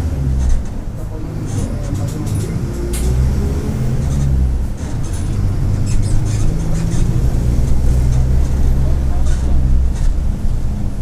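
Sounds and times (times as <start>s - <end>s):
diesel bus engine under load: 0.0s - 11.0s.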